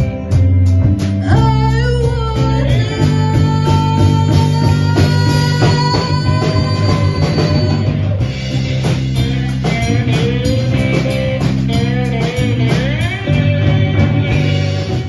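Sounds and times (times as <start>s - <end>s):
live band with guitars: 0.0s - 15.0s
sliding guitar lead line: 0.0s - 15.0s.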